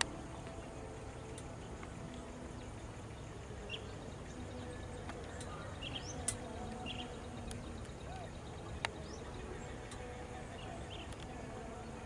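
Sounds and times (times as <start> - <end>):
distant bird chirps: 0.0 - 12.0
faint outdoor background noise: 0.0 - 12.0.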